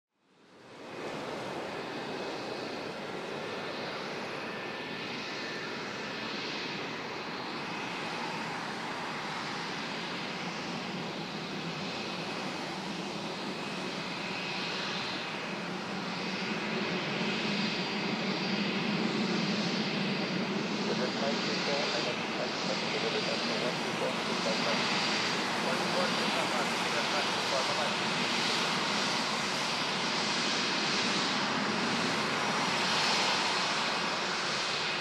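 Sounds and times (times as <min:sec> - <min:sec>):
jet engines with a whine: 0:00.2 - 0:35.0.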